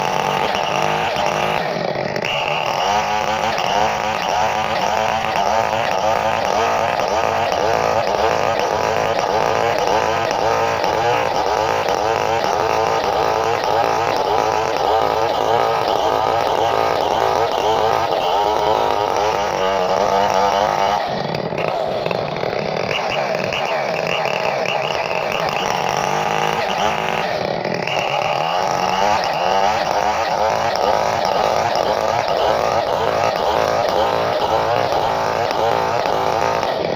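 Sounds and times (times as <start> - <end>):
chainsaw engine running: 0.0 - 36.9.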